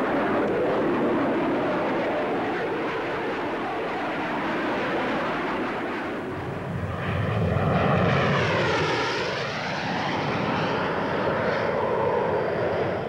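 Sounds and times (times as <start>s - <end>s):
jet fighter flying past: 0.0s - 13.0s.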